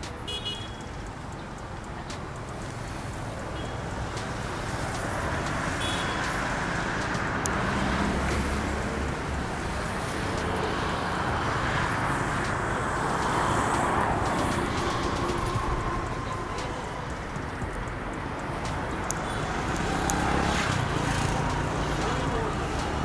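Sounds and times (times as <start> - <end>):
road rumble: 0.0 - 23.0
vehicle engines: 0.0 - 23.0.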